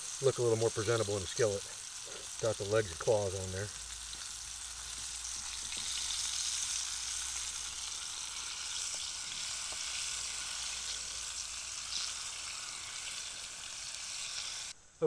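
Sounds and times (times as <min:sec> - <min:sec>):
frying sizzle in skillet: 0:00.0 - 0:15.0.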